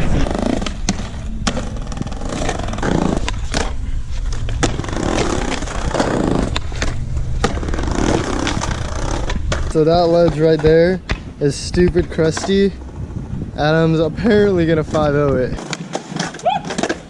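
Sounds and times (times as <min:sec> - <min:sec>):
skateboard wheels rumbling: 0:00.0 - 0:17.0
skateboard clacks: 0:00.4 - 0:12.8, 0:14.6 - 0:17.0.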